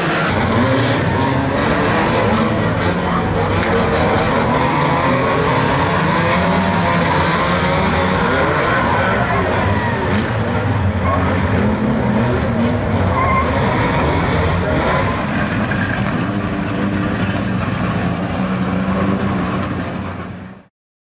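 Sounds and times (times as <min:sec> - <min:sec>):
racing car engines revving: 0:00.0 - 0:20.7.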